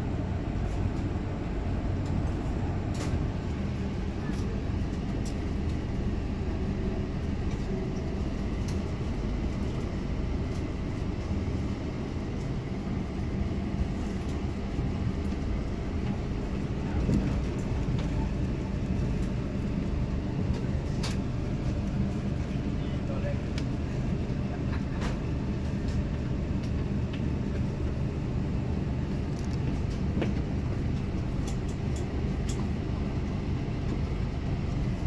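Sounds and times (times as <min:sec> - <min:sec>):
diesel railcar rumbling: 0:00.0 - 0:35.0.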